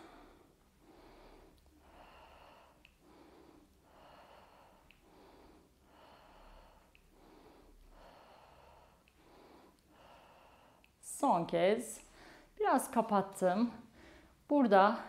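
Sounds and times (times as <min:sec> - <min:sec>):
woman breathing: 0:00.0 - 0:12.6, 0:13.7 - 0:15.0.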